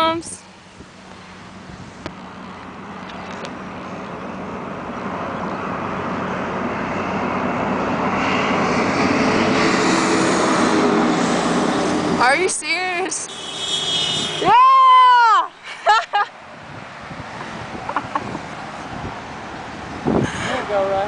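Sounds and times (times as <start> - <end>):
truck tyres and diesel engine: 0.0 - 14.5, 16.3 - 21.0.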